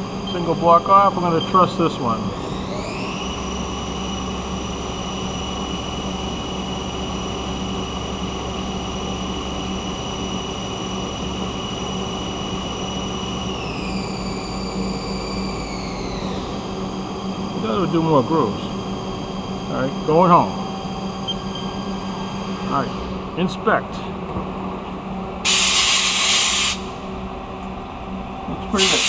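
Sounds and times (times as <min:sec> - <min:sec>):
lathe spindle whine: 0:00.0 - 0:29.0
low machine hum: 0:00.0 - 0:29.0.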